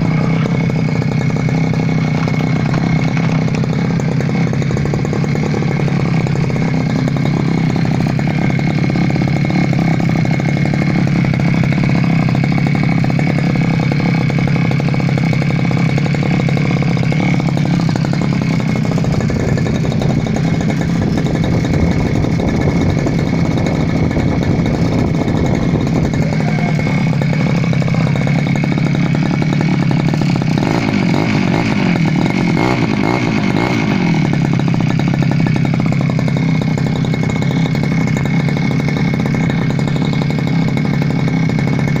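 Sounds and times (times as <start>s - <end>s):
brush cutter engine running: 0.0s - 42.0s.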